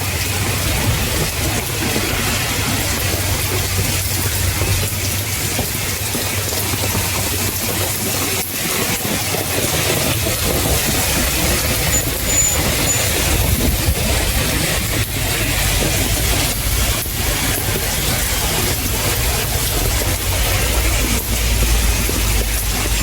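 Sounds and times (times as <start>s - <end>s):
heavy rain falling: 0.0s - 23.0s
road traffic rumble: 0.0s - 23.0s.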